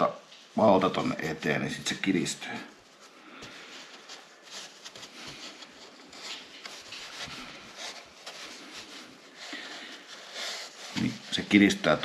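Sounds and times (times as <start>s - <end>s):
hands rubbing felt fabric: 0.0s - 12.0s.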